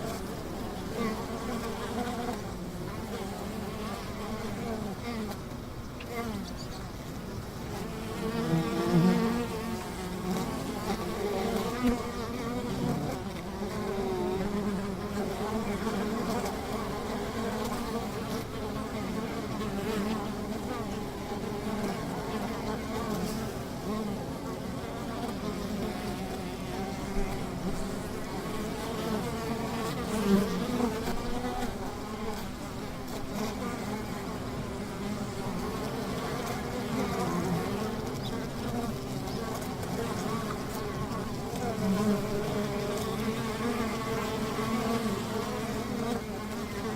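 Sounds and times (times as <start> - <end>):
bees buzzing: 0.0 - 46.9.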